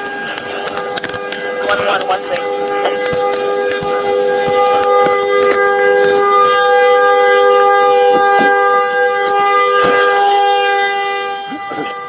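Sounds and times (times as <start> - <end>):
vehicle horn blaring: 0.0 - 12.0.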